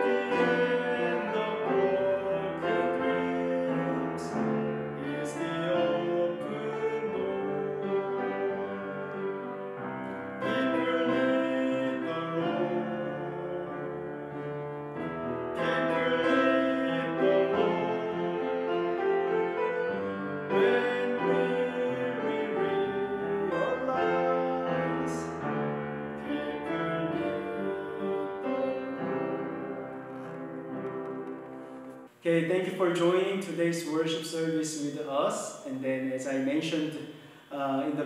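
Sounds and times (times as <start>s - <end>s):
slow piano music: 0.0s - 32.1s.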